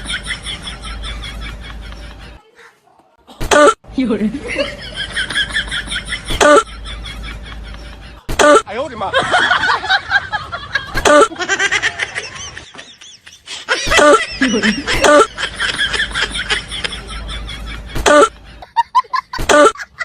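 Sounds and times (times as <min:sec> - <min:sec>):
people laughing: 0:00.0 - 0:02.5, 0:04.2 - 0:20.0.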